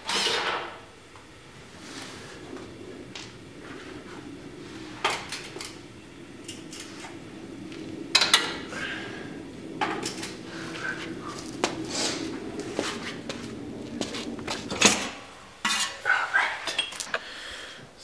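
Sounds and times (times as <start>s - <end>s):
steady low hum: 0.4s - 18.0s.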